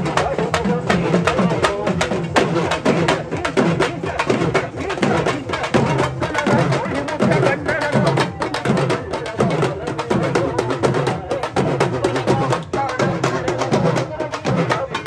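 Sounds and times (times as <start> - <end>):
rapid drum and wood-block strikes: 0.0 - 15.0.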